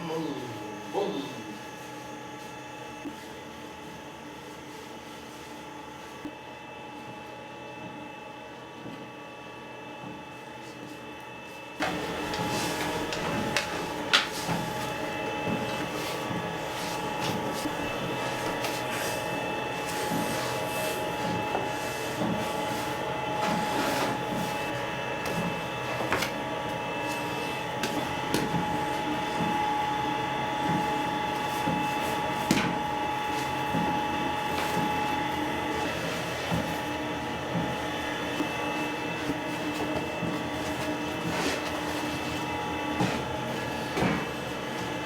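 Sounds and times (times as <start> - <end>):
electric dough mixer running: 5.6 - 45.0.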